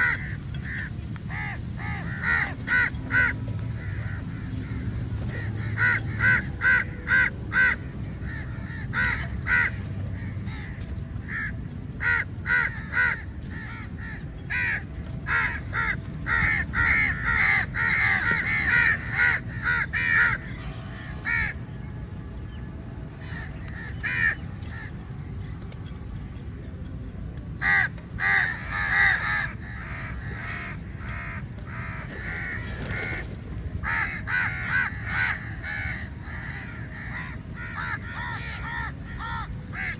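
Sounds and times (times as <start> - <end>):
crows cawing: 0.0 - 4.8, 5.4 - 21.7, 23.2 - 24.9, 27.6 - 33.2, 33.8 - 39.9.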